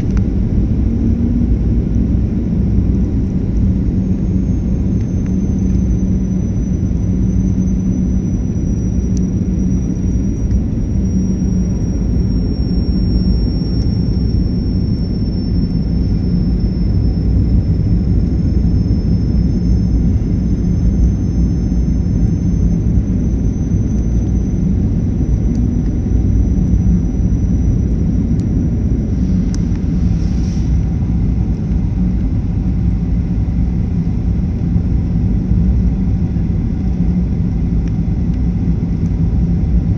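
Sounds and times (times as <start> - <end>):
airliner cabin engine rumble: 0.0 - 39.9
high whine dropping in pitch: 0.0 - 39.9.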